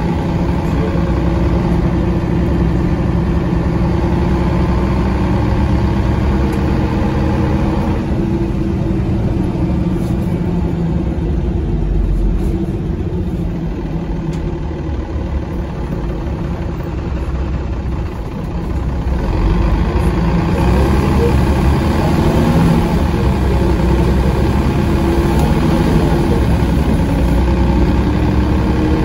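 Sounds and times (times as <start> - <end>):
bus diesel engine running: 0.0 - 29.0.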